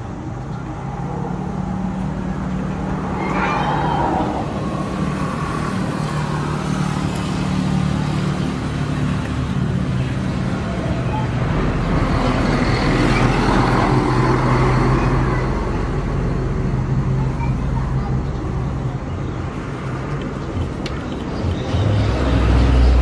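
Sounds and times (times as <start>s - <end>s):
road noise: 0.0s - 23.0s
vehicle engine humming: 0.0s - 23.0s.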